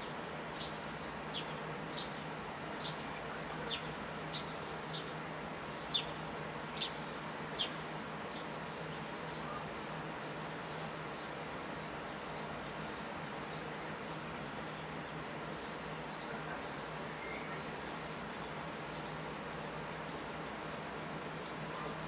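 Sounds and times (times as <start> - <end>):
outdoor background hiss: 0.0 - 22.0
sparrows chirping: 0.0 - 22.0.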